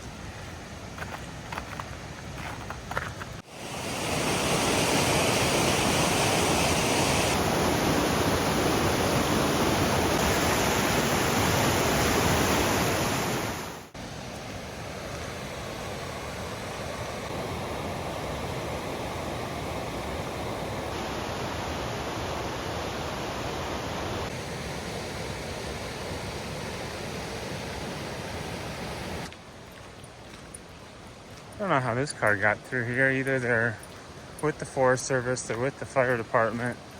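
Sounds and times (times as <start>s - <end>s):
whitewater creek roaring: 3.4s - 36.9s.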